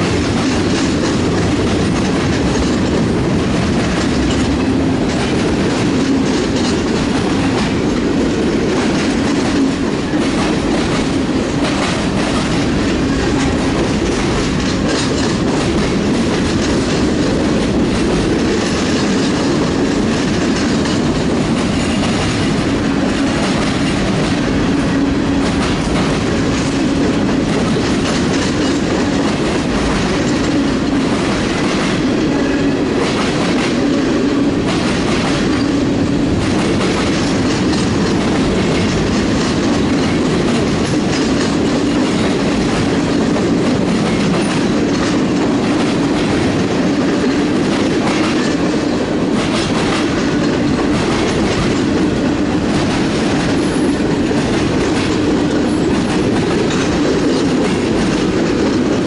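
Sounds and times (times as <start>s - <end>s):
freight train cars rolling: 0.0s - 59.0s
wheels clicking over rail joints: 0.0s - 59.0s.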